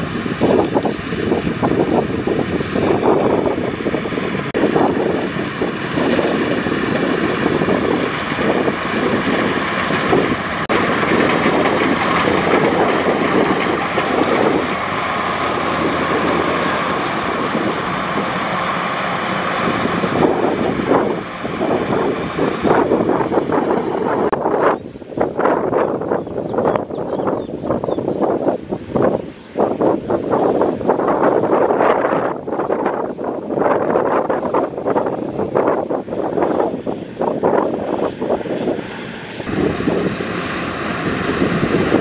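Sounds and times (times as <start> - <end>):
combine harvester running: 0.0 - 25.6, 33.1 - 42.0.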